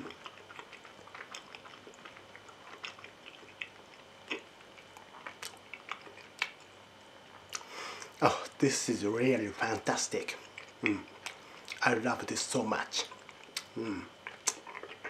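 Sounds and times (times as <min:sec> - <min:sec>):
person chewing food: 0:00.0 - 0:08.2, 0:09.6 - 0:12.4, 0:13.0 - 0:15.0.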